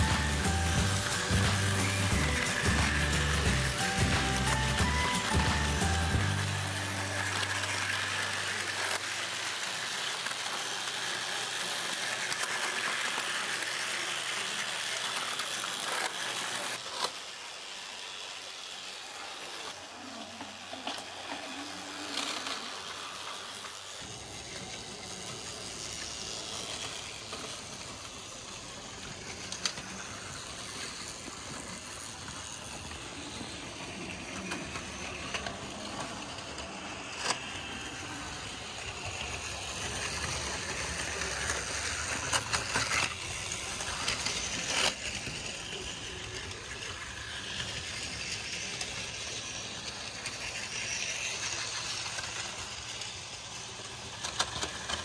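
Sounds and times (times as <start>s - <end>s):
toy train whirring: 0.0s - 55.0s.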